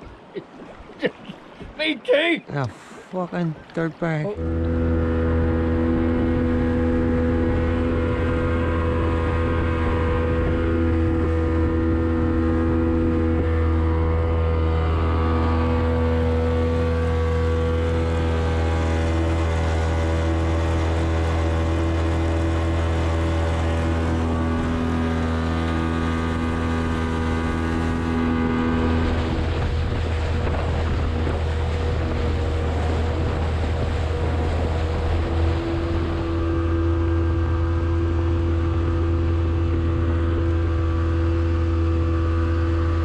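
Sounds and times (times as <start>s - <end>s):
rush of wind and water: 0.0s - 43.0s
outboard motor running: 2.8s - 43.0s.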